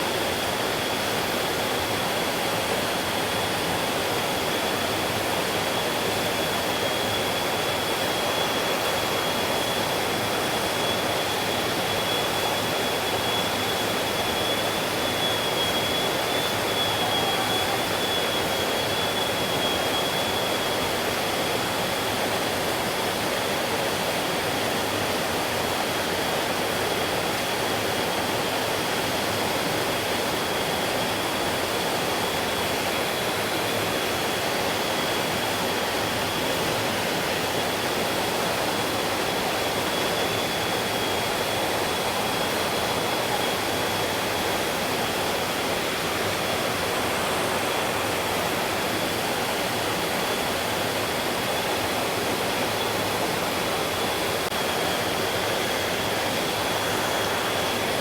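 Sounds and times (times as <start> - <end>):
thin high whine: 0.2 - 24.2, 26.4 - 58.0.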